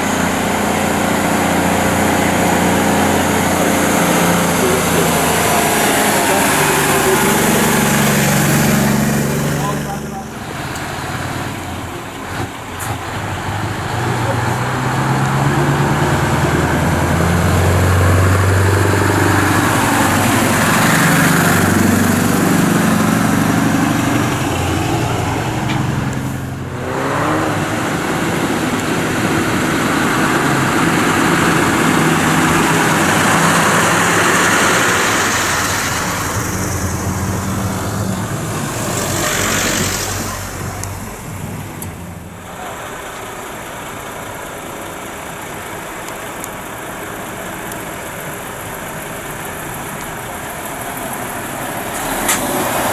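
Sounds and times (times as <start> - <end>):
trucks driving past: 0.0 - 52.9.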